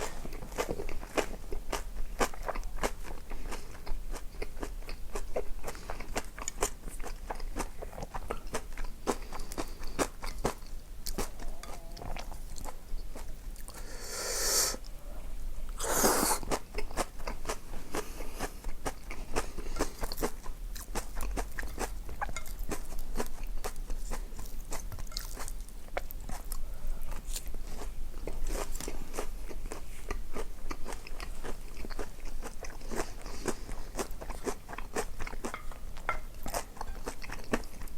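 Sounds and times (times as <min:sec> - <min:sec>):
person chewing and crunching food: 0:00.0 - 0:15.0, 0:15.7 - 0:37.9.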